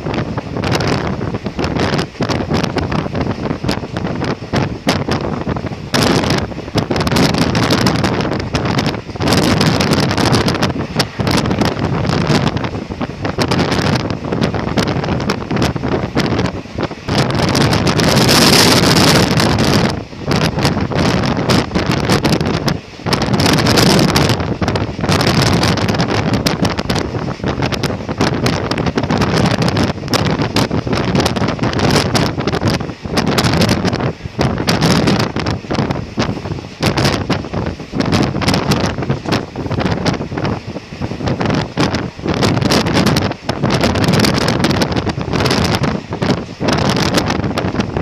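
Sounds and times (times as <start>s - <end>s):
train running rumble: 0.0s - 48.0s
wind buffeting microphone: 0.0s - 48.0s.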